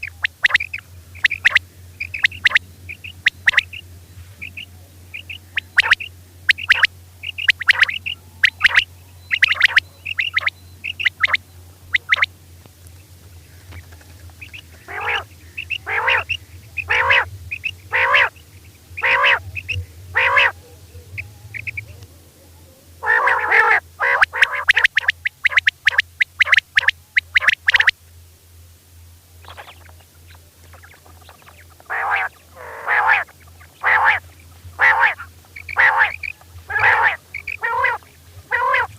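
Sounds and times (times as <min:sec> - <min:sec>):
quail calling: 0:00.0 - 0:12.3, 0:13.5 - 0:18.4, 0:19.0 - 0:22.1, 0:23.0 - 0:27.9, 0:29.4 - 0:38.9
steady low hum: 0:00.0 - 0:38.9.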